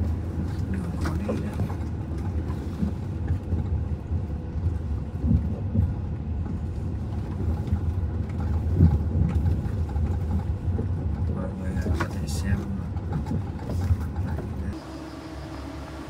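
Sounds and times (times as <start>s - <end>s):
car jolting over bumps: 0.0s - 14.8s
car engine and tyres rumbling: 0.0s - 16.0s.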